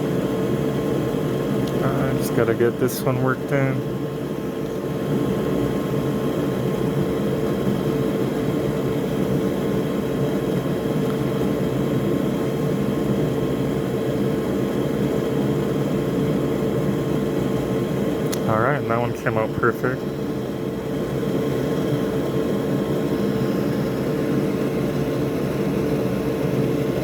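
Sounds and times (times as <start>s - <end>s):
constant hum tone: 0.0s - 27.0s
electric fans whirring: 0.0s - 27.0s.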